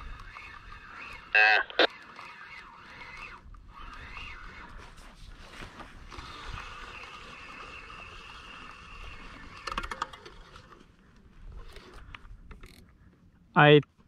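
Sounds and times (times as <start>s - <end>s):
fishing reel drag whining: 0.0s - 12.9s.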